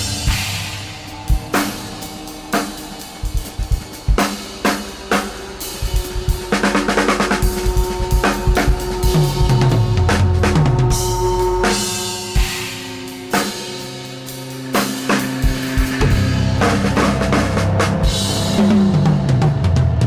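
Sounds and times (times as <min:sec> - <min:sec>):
drum kit playing: 0:00.0 - 0:20.0.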